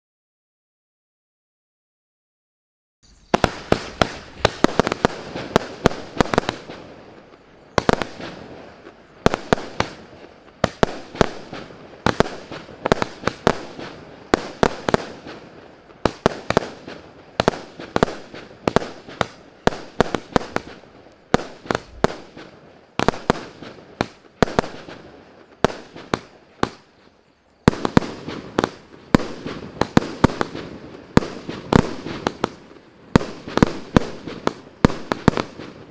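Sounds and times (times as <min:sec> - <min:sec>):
fireworks firing rapid volley: 0:03.1 - 0:35.9.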